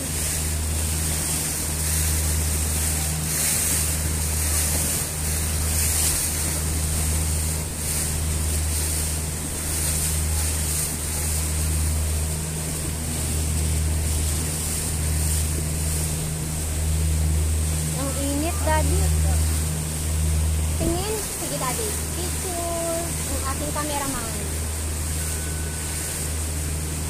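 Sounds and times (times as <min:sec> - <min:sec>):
motorboat engine drone: 0:00.0 - 0:27.0
water rushing along hull: 0:00.0 - 0:27.0.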